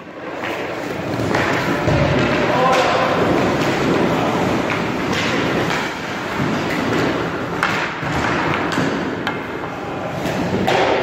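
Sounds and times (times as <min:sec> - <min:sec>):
hockey sticks knocking: 0:00.0 - 0:11.0
skates scraping on ice: 0:00.0 - 0:11.0.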